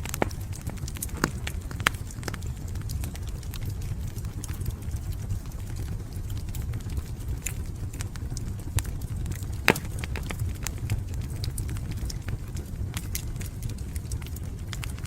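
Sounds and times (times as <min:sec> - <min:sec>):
fire popping: 0:00.0 - 0:15.0
low rumble of flames: 0:00.0 - 0:15.0
wood fire crackling: 0:00.0 - 0:15.0.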